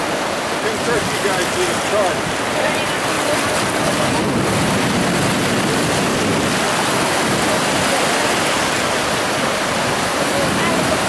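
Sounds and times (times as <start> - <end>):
surf washing over sand: 0.0 - 11.0.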